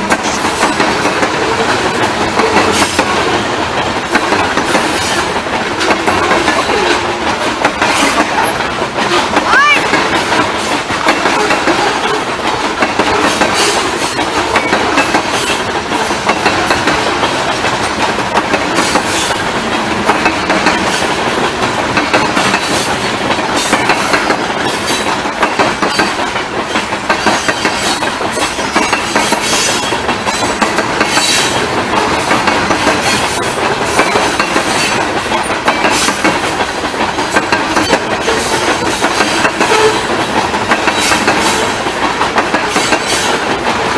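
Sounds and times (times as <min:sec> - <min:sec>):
freight train wheels rumbling: 0:00.0 - 0:43.9
wheels clanking over rail joints: 0:00.0 - 0:43.9.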